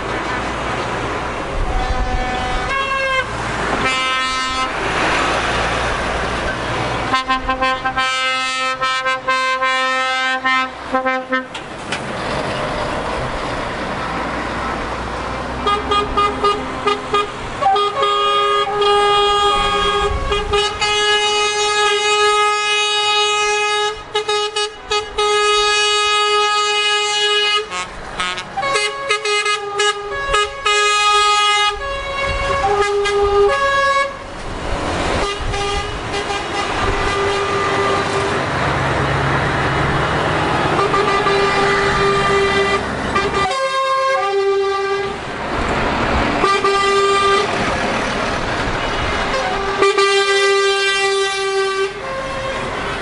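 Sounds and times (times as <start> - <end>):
lorry engines passing: 0.0 - 53.0
tyres going past: 0.0 - 53.0
truck horns blasting: 1.4 - 11.7, 15.5 - 38.8, 39.4 - 45.3, 46.1 - 53.0.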